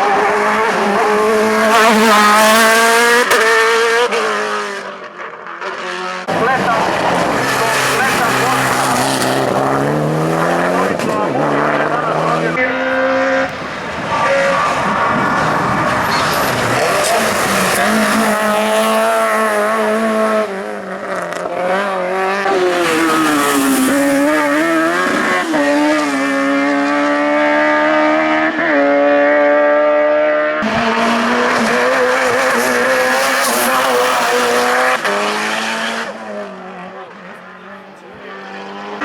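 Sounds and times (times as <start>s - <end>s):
engine at high revs: 0.0s - 39.0s
race car engine accelerating: 0.0s - 39.0s.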